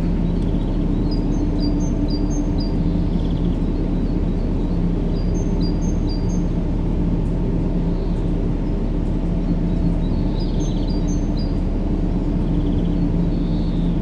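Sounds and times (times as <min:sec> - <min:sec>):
low rumbling white noise: 0:00.0 - 0:14.0.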